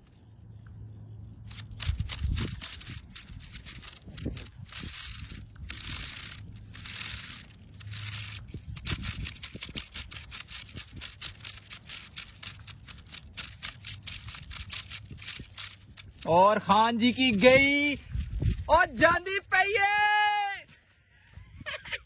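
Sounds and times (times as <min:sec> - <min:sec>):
wind rumble on microphone: 0:01.5 - 0:16.4, 0:17.2 - 0:19.3, 0:21.3 - 0:22.0
dry crackling and rustling: 0:01.5 - 0:19.2.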